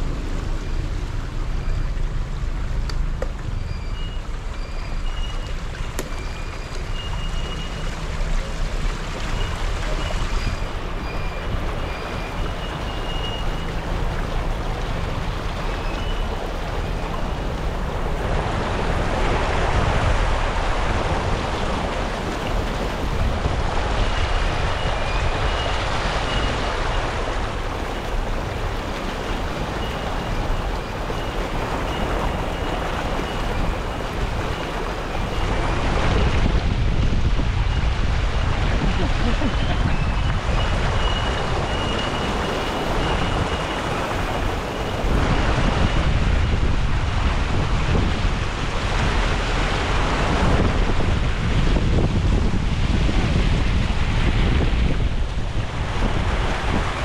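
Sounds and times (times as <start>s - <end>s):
engine and road rumble: 0.0s - 57.0s
water rushing against car: 0.0s - 57.0s.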